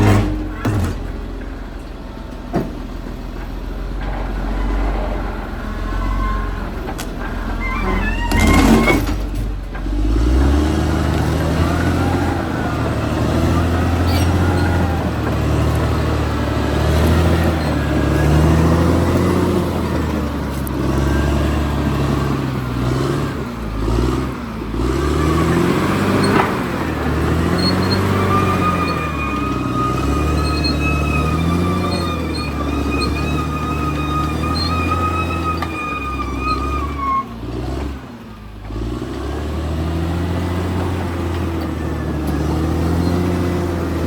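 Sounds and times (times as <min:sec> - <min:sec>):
bulldozer diesel engine: 0:00.0 - 0:44.0.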